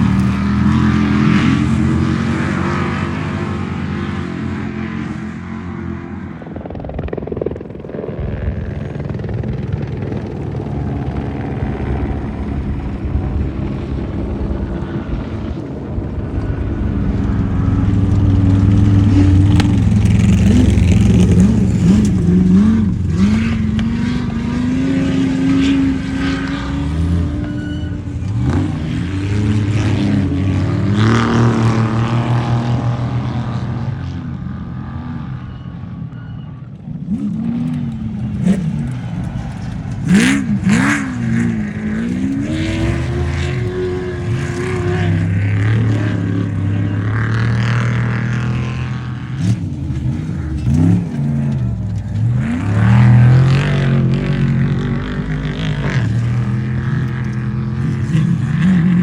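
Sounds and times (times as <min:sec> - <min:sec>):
race vehicle engines revving: 0:00.0 - 0:59.0.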